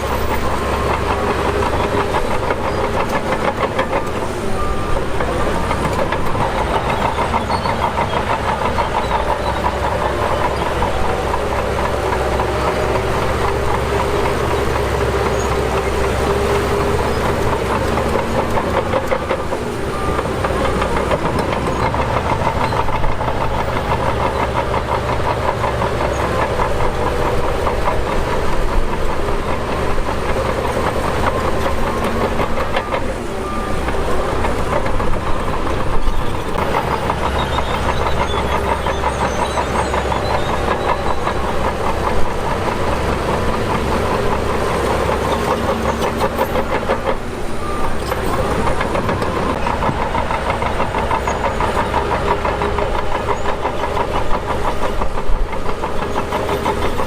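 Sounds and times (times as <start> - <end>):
bulldozer diesel engine clattering: 0.0 - 57.0.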